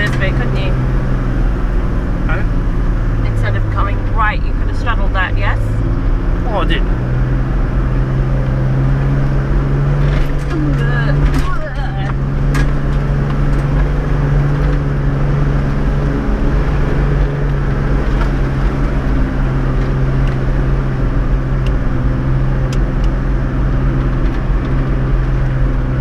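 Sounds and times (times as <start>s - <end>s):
off-road vehicle engine droning: 0.0s - 26.0s.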